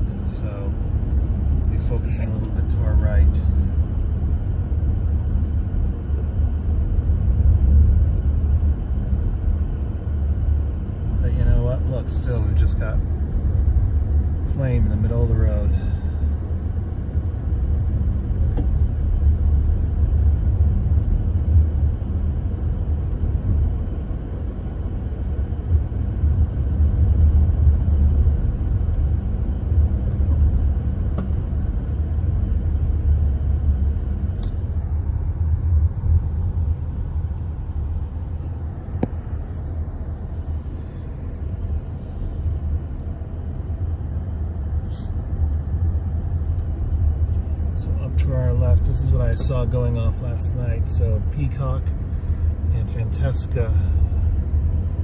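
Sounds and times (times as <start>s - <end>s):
car engine and tyre noise inside: 0.0s - 55.0s.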